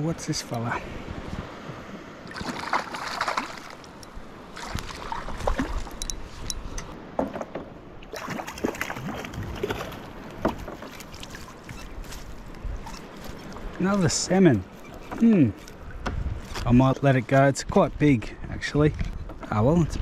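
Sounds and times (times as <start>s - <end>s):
water splashing around boat: 0.3s - 17.8s.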